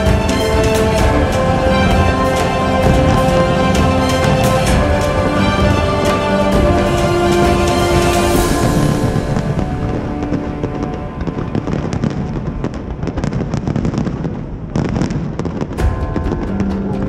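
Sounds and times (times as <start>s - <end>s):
music playing: 0.0s - 14.1s, 15.7s - 17.0s
fireworks bangs and crackles: 0.0s - 17.0s.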